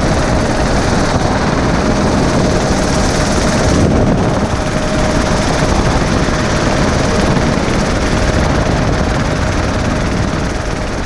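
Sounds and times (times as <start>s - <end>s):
propeller plane engine: 0.0s - 11.0s
wind rushing through open door: 0.0s - 11.0s.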